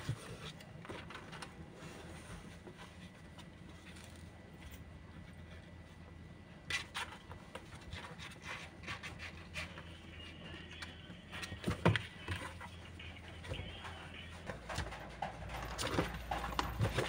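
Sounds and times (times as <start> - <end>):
kittens scratching on cardboard: 0.0 - 17.0.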